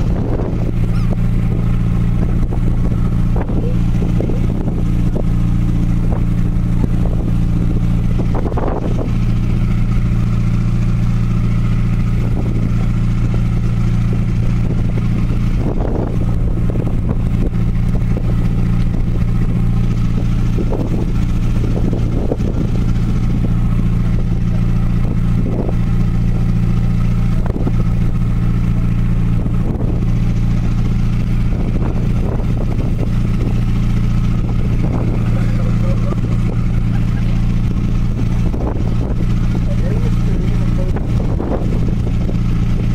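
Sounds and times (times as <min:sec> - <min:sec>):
ferry engine drone: 0:00.0 - 0:42.9.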